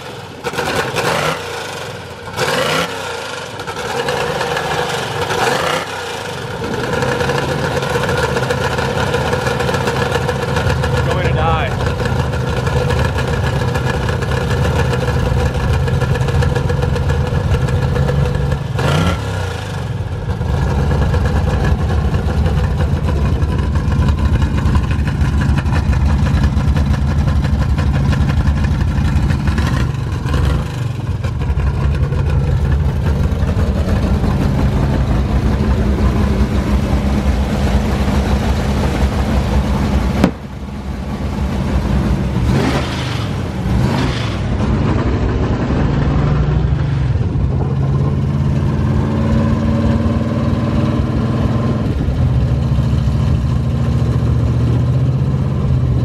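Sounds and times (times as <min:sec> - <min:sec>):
car engine idling: 0:00.0 - 0:19.0, 0:19.6 - 0:49.0.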